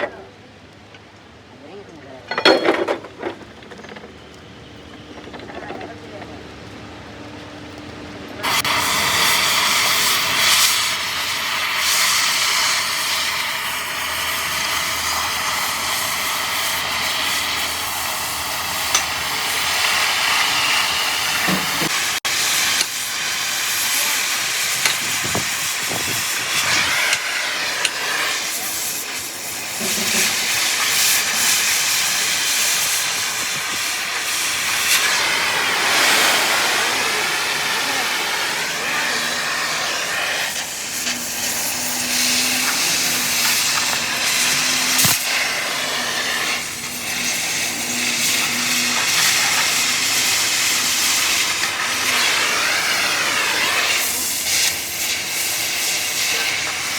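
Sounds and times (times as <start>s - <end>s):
loud steady hissing: 8.4s - 56.9s.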